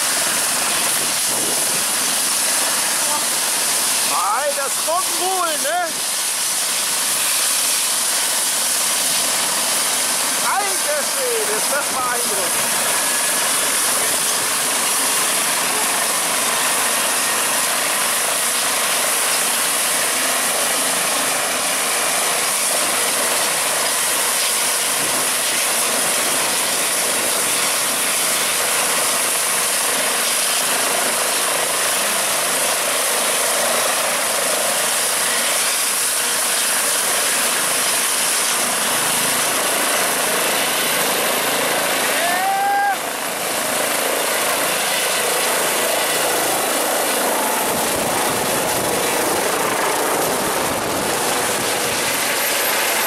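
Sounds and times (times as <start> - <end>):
helicopter engines and rotor: 0.0 - 53.0.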